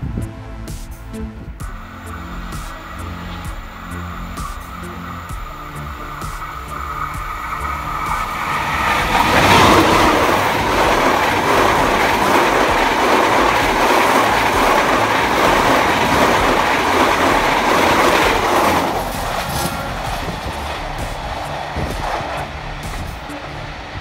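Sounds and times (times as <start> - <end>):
train wheels on rails: 0.7 - 24.0
train passing: 1.0 - 24.0.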